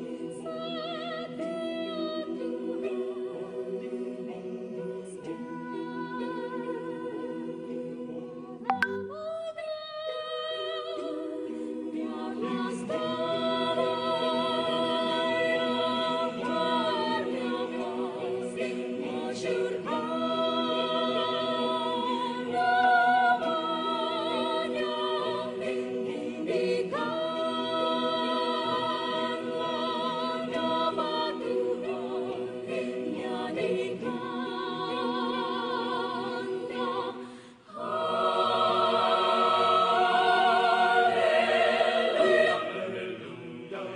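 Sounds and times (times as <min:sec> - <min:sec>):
choir singing a cappella: 0:00.0 - 0:43.9.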